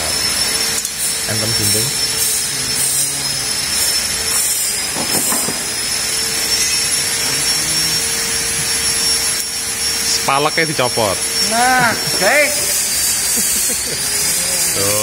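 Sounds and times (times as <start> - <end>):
high machine whine: 0.0 - 15.0
low machine hum: 0.0 - 15.0
machine hiss: 0.0 - 15.0.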